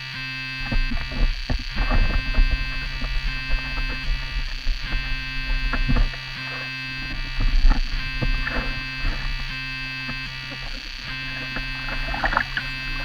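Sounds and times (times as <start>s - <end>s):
buzzing synth chords: 0.0s - 13.0s
low rumble and knocks from water: 0.7s - 6.2s, 7.1s - 13.0s.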